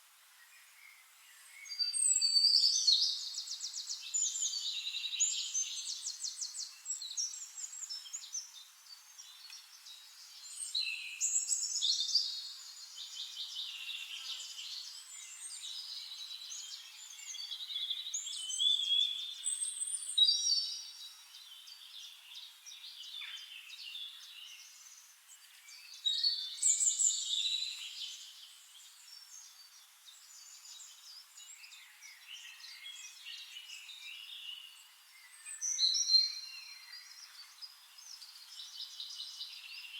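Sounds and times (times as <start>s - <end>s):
many birds singing and chirping: 0.4s - 39.9s.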